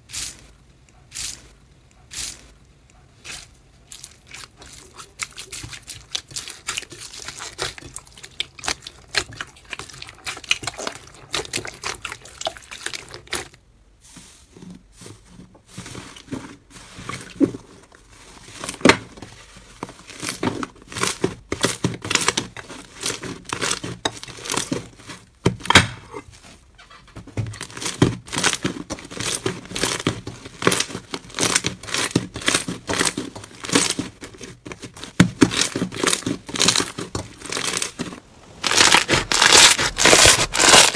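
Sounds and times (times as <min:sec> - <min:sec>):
hands squishing slime: 0:00.0 - 0:13.6, 0:14.4 - 0:26.6, 0:27.4 - 0:40.9.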